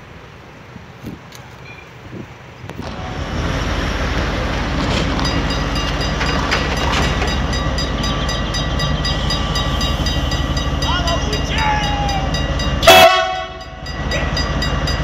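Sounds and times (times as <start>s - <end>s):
locomotive engine throb: 2.8s - 15.0s.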